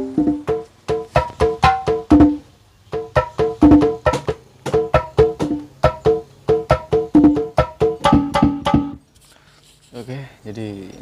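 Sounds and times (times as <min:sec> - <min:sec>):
pitched hand drum hits: 0:00.0 - 0:09.0.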